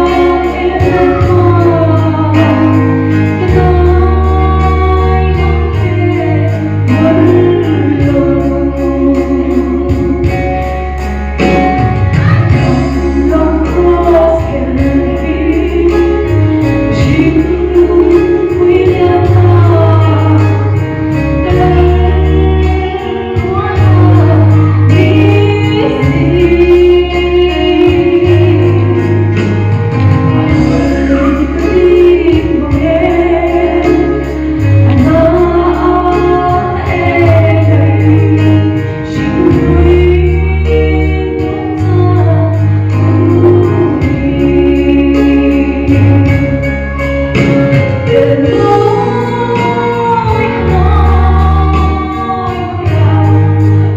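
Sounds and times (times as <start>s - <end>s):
woman singing: 0.0s - 10.8s, 11.4s - 53.9s
band accompaniment: 0.0s - 53.9s
deep bass notes: 0.0s - 53.9s.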